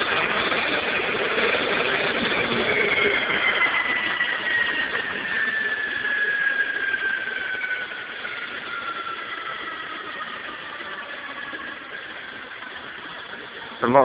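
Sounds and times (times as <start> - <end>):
bench grinder winding down: 0.0 - 14.0.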